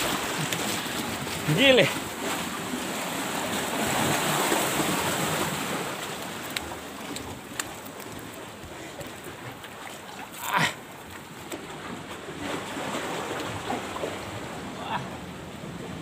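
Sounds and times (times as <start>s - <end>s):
sea surf: 0.0s - 16.0s.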